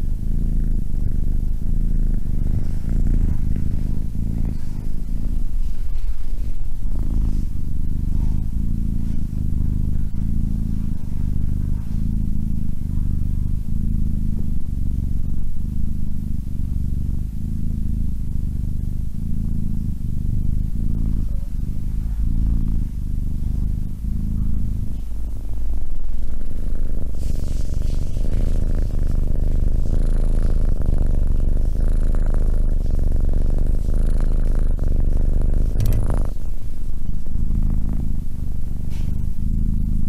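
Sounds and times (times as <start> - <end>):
kitten purring: 0.0 - 40.0.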